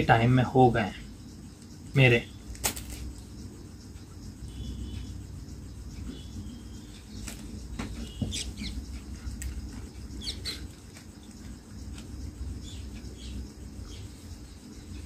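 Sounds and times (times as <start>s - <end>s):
steady low hum: 0.0s - 15.0s
bird chirps: 0.4s - 15.0s.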